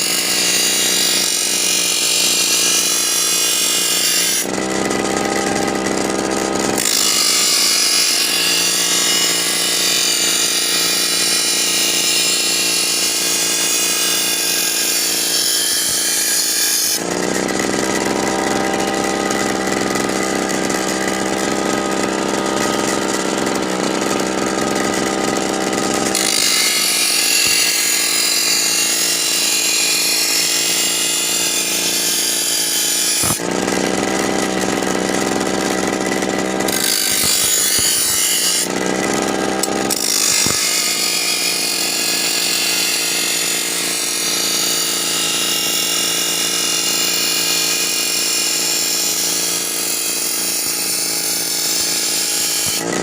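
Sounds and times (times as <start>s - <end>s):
power tool motor running: 0.0s - 53.0s.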